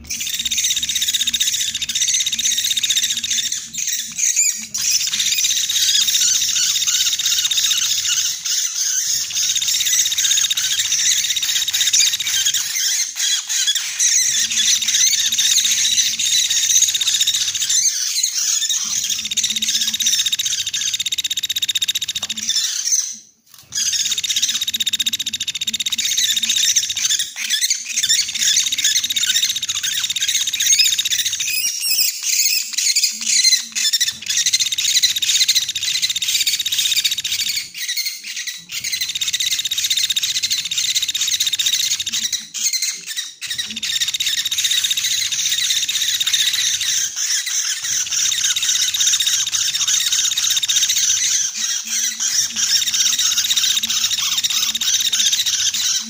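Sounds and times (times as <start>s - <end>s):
woodpeckers squeaking chatter: 0.0s - 56.0s.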